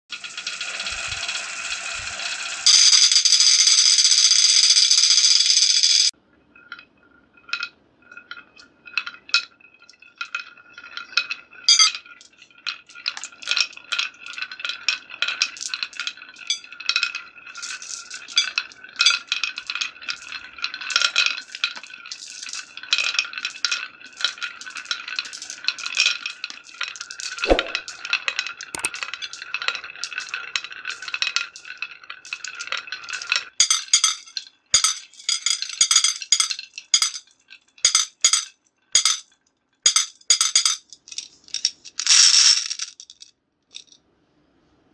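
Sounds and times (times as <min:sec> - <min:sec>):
marbles clattering down wooden run: 0:00.1 - 0:06.1, 0:07.4 - 0:39.2, 0:39.9 - 0:44.0.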